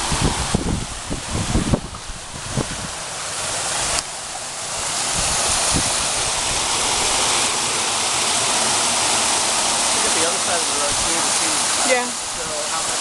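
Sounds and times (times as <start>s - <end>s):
rushing runoff water: 0.0s - 13.0s.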